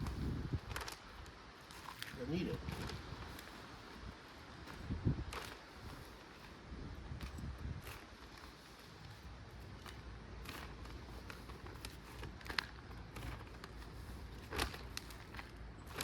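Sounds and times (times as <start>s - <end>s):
soil scrapes and rustles: 0.0s - 16.0s.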